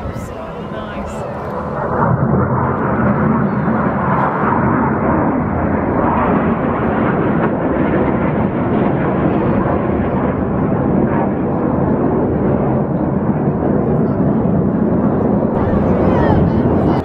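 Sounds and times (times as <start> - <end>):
jet roar passing overhead: 0.0 - 17.0.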